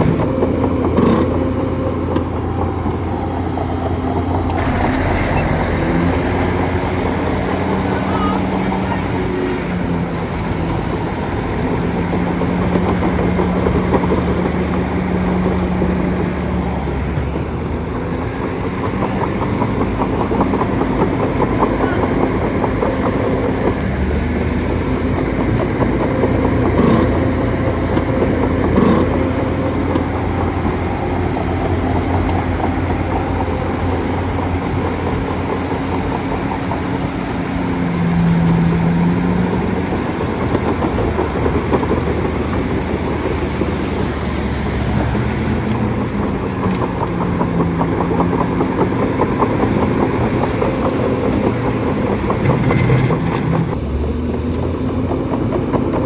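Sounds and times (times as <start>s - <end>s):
bulldozer diesel engine running: 0.0s - 56.0s
pitched whine: 0.0s - 56.0s.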